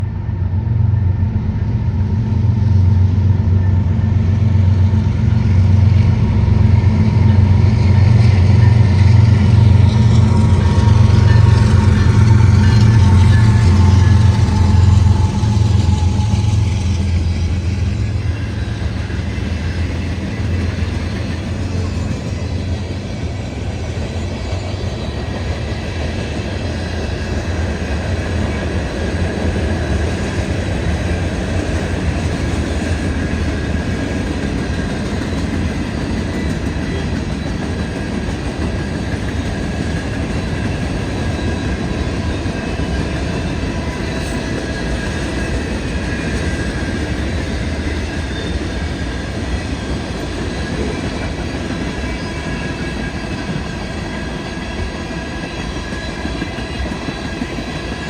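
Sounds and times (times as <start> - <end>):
diesel locomotives running: 0.0 - 58.0
train wheels rumbling on rail: 0.0 - 58.0.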